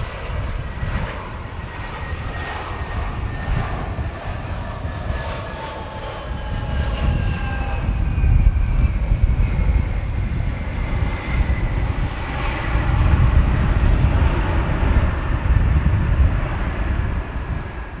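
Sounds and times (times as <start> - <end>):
jet engines whining: 0.0 - 18.0
wind buffeting microphone: 0.0 - 18.0.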